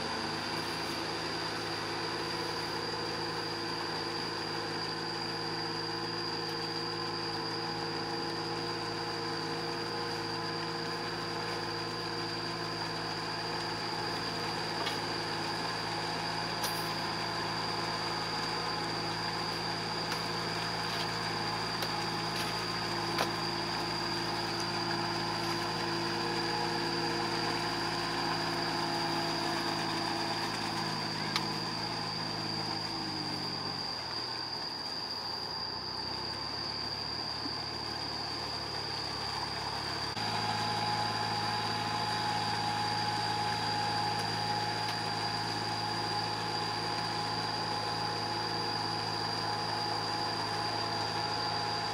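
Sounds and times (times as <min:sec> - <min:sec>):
diesel tractor engine running: 0:00.0 - 0:51.9
high-pitched whine: 0:00.0 - 0:51.9.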